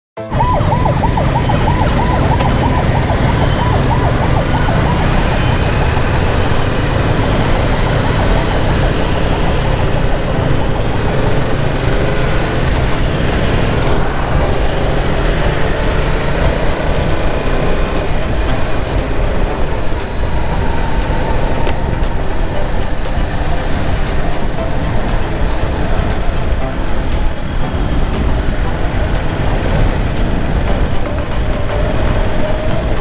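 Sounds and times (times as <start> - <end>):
road and engine rumble: 0.2 - 33.0
siren wailing: 0.2 - 33.0.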